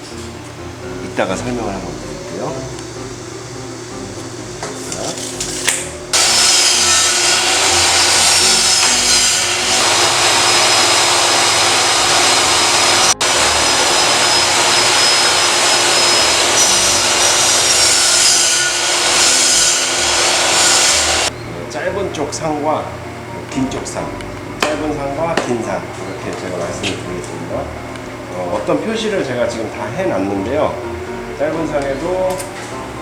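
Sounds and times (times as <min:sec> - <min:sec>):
power saw cutting wood: 0:00.0 - 0:33.0.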